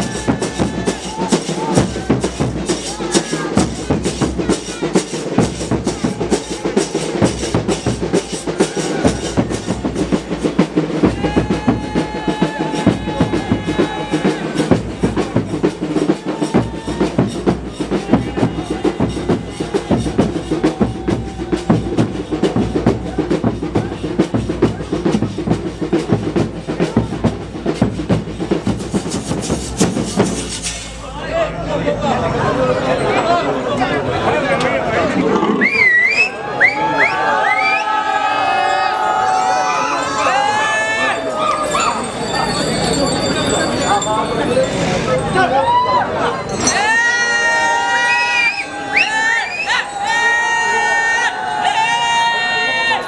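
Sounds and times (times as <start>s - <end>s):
fast percussion ensemble drumming: 0.0s - 31.1s, 38.7s - 51.3s.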